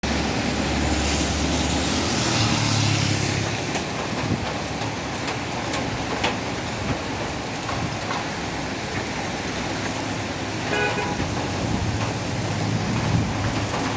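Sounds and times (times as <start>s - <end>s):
rain: 0.0s - 13.9s
wind: 0.0s - 13.9s.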